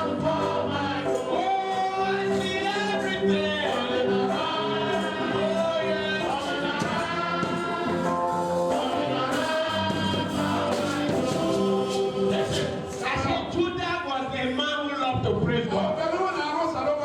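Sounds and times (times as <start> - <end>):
choir singing gospel music: 0.0 - 13.8.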